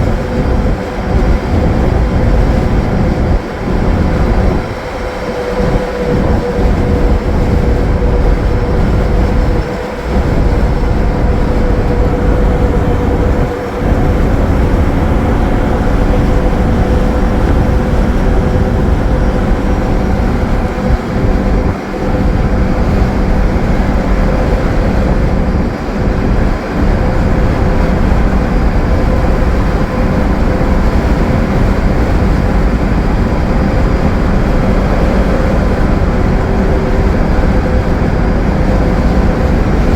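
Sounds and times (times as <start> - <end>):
bus diesel engine running: 0.0 - 39.9
road and wind rumble: 0.0 - 39.9
steady whine: 0.0 - 39.9.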